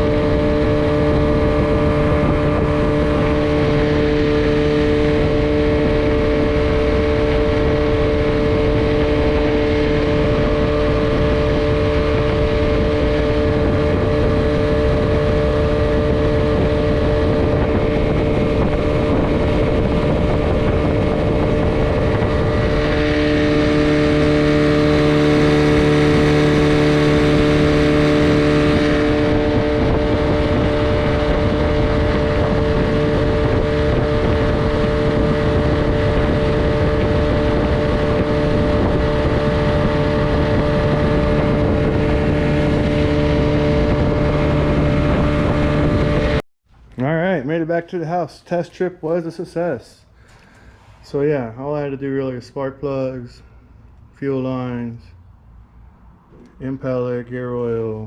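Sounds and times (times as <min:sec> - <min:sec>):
outboard motor running: 0:00.0 - 0:46.4, 0:50.1 - 0:51.0.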